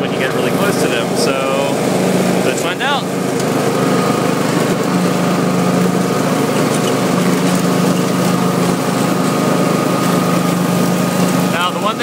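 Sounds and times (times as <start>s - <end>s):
riding lawn mower running: 0.0s - 12.0s.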